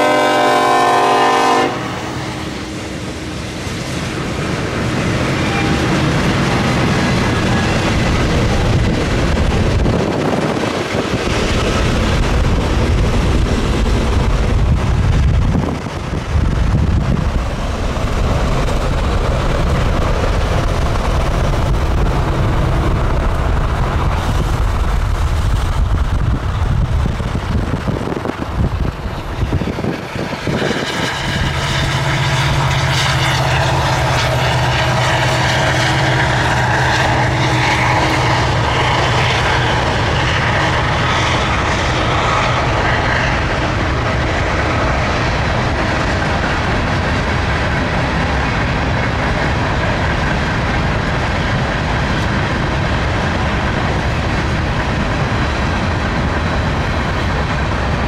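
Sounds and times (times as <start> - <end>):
train wheels rumbling on rail: 0.0 - 58.0
wind and road noise from car: 3.0 - 32.3, 36.8 - 58.0.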